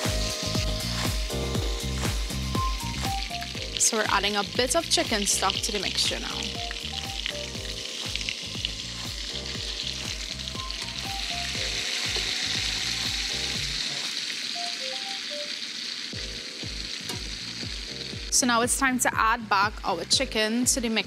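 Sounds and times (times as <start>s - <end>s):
stock sizzling in frying pan: 0.0s - 20.3s.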